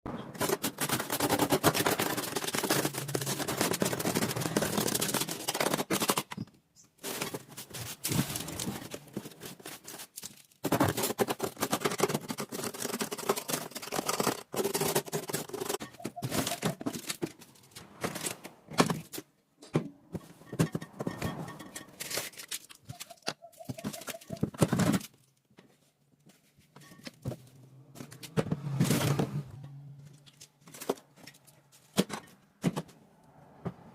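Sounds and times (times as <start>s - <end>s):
household items clicking and clattering: 0.3s - 33.0s.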